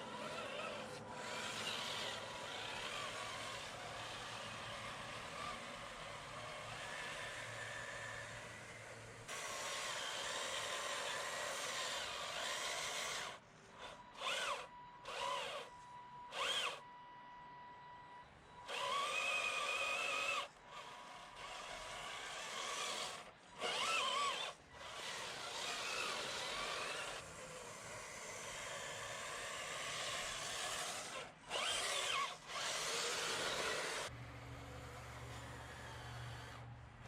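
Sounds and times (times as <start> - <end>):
electric motor whining: 0.0 - 17.0, 18.0 - 36.8.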